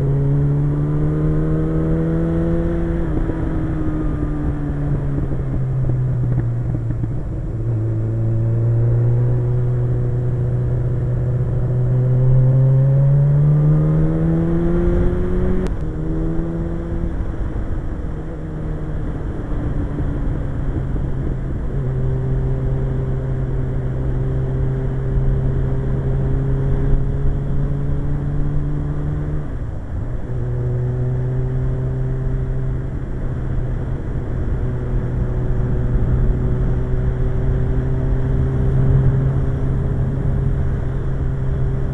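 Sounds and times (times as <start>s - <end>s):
low wind rumble: 0.0s - 41.9s
motorcycle engine accelerating: 0.0s - 41.9s.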